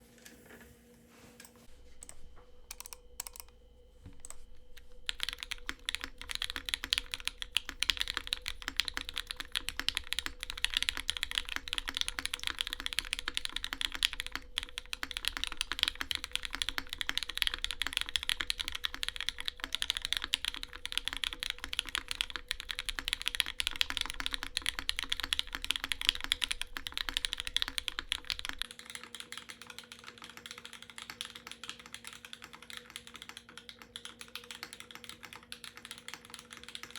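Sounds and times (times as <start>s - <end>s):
fast typing on mechanical keyboard: 2.7s - 3.5s, 4.2s - 36.9s.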